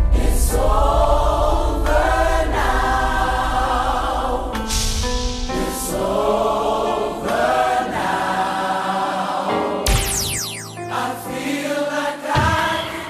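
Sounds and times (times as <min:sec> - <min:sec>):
gospel choir singing: 0:00.0 - 0:09.9, 0:10.8 - 0:13.0.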